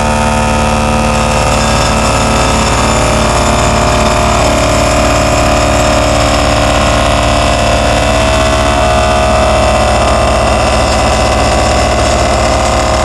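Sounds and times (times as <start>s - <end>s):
machine engine running: 0.0s - 13.0s
vibratory post driver buzzing: 0.0s - 13.0s.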